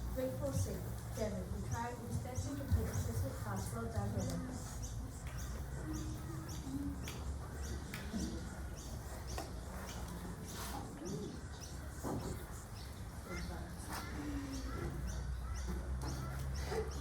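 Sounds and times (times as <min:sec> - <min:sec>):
low background murmur: 0:00.0 - 0:17.0.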